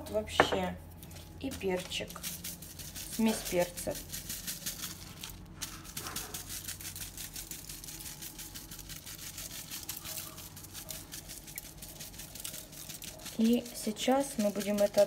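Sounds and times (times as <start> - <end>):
low steady hum: 0.0 - 15.0
spice sachet rustling: 0.3 - 15.0.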